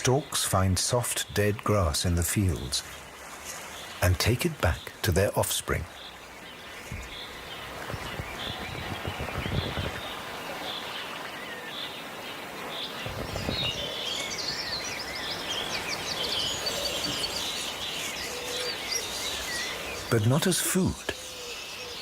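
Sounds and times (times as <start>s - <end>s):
outdoor background hiss: 0.0s - 22.0s
small birds chirping: 0.0s - 22.0s.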